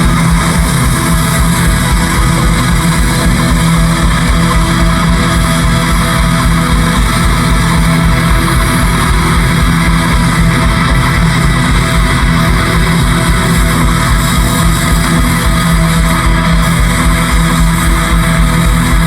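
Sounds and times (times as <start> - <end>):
bass guitar: 0.0 - 19.0
distorted electric guitar: 0.0 - 19.0
driving drum beat: 0.0 - 19.0.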